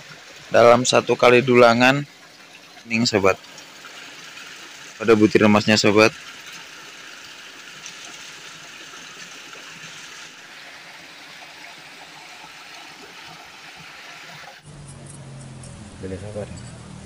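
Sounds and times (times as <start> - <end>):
flowing water rushing: 0.0 - 14.7.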